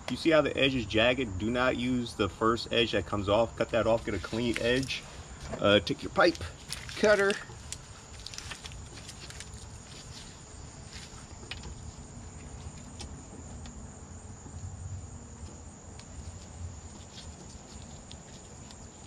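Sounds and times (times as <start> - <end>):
insect trilling: 0.6 - 19.0.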